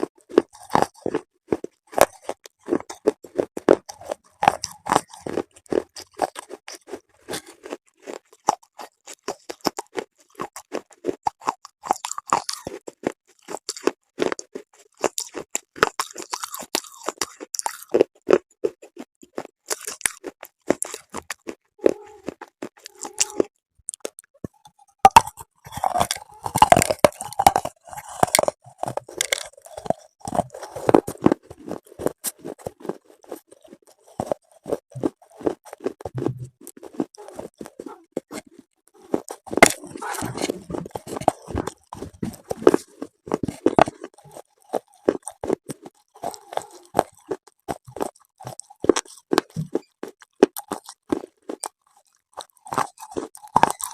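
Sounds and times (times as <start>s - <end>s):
crunching chewing of brittle pieces: 0.0s - 53.9s.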